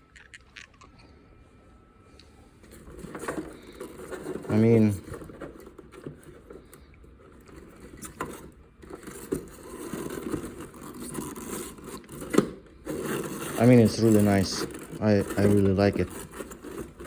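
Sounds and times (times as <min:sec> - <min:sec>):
light scraping and handling: 0:02.6 - 0:17.0.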